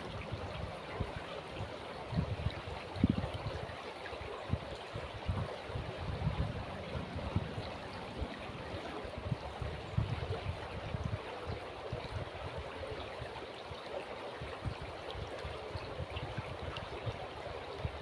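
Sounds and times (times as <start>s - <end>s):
river water rushing: 0.0s - 15.8s.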